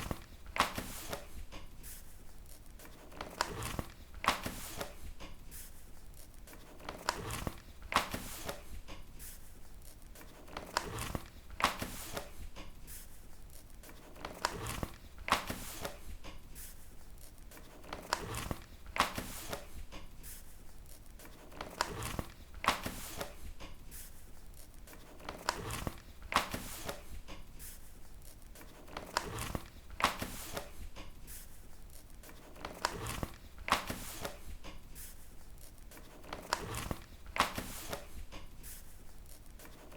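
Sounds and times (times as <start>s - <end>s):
paper pages turning: 0.0s - 39.9s.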